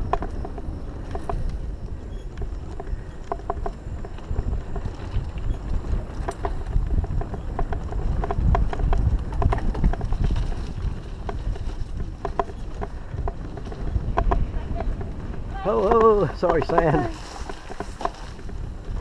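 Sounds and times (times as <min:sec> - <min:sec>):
bike rattling over bumps: 0:00.0 - 0:19.0
wind and riding rumble: 0:00.0 - 0:19.0.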